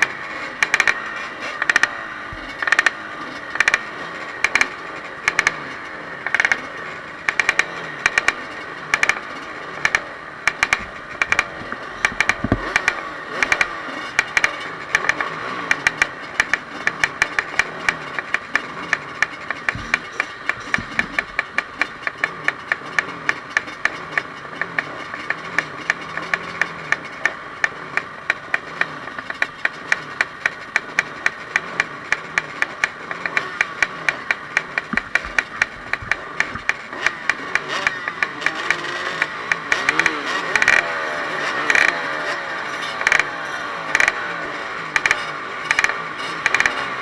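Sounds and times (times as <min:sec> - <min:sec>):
motorcycle engines revving: 0:00.0 - 0:47.0
rapid uneven ticking: 0:00.0 - 0:47.0.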